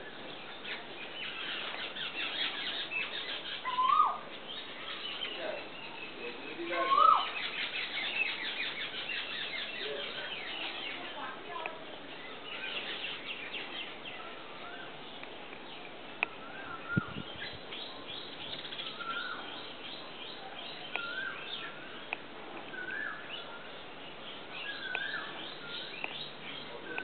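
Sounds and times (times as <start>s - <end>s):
small birds twittering: 0.0s - 27.0s.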